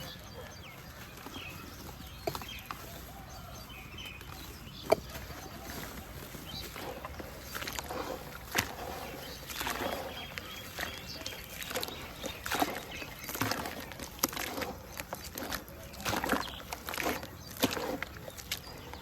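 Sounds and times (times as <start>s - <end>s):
dry dirt crackling: 0.0s - 19.0s
soft wet swishes: 0.3s - 19.0s.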